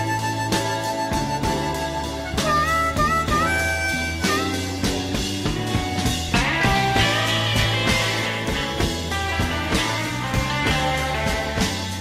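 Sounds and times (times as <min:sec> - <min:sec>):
held bass notes: 0:00.0 - 0:12.0
music with steady beat: 0:00.0 - 0:12.0.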